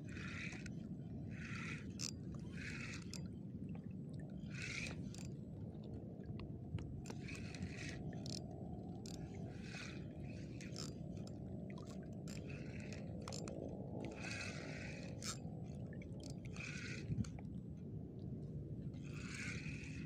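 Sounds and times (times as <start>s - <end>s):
sea water lapping: 0.0s - 20.0s.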